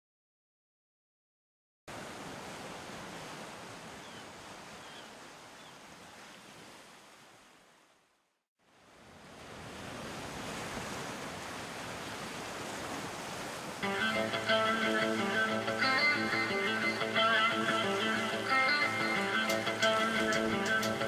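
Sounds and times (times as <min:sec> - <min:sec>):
waves rushing: 0:01.9 - 0:21.0.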